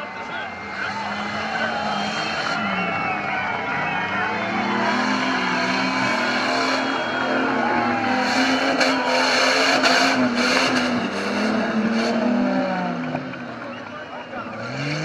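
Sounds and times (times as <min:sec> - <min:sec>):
vehicle engine under load: 0:00.0 - 0:15.0.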